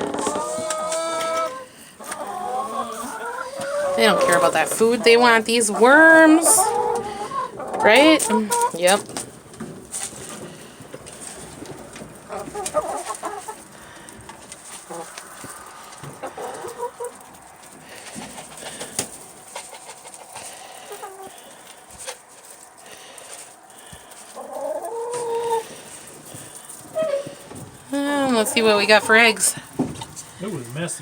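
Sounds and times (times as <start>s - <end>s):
hens clucking and calling: 0.0s - 30.9s
pecks and rustles: 2.9s - 31.0s.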